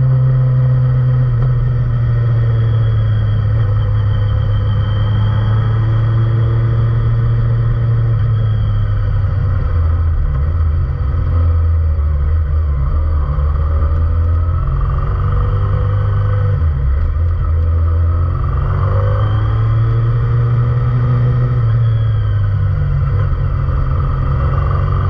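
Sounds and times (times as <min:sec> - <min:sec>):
motorcycle engine deep rumble: 0:00.0 - 0:25.0.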